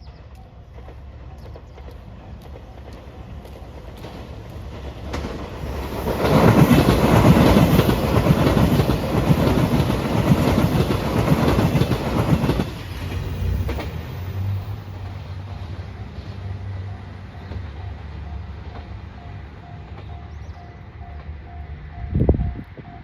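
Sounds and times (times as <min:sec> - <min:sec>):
low train rumble: 0:00.0 - 0:23.0
train wheels clattering on rails: 0:00.0 - 0:23.0.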